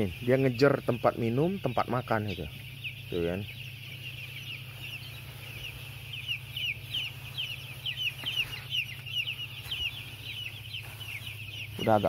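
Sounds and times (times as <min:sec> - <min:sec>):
chicks peeping: 0:00.0 - 0:12.0
steady low hum: 0:00.0 - 0:12.0.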